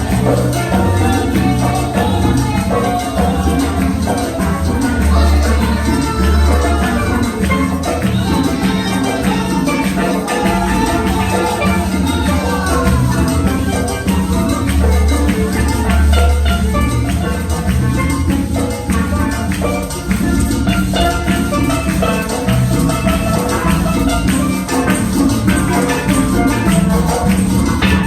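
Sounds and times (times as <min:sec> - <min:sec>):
upbeat latin-style band music: 0:00.0 - 0:28.0.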